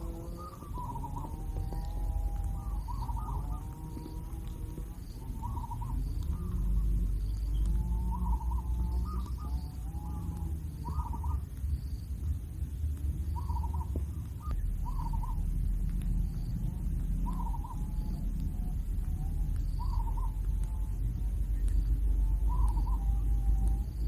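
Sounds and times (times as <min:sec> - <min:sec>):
bird chicks harsh calls: 0:00.0 - 0:12.0, 0:13.3 - 0:15.4, 0:16.3 - 0:24.0
steady low rumble: 0:00.0 - 0:24.0.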